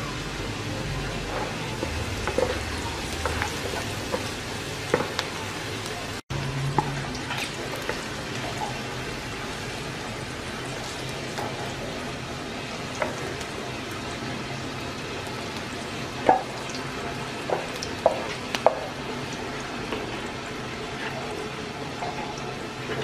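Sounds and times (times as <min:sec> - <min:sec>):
oil sizzling in frying pan: 0:00.0 - 0:23.0.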